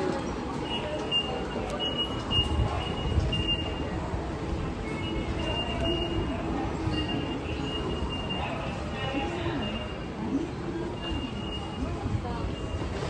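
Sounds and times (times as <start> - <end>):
crowd noise: 0.0 - 13.0
ticket gate beeps: 0.1 - 4.1, 4.7 - 13.0.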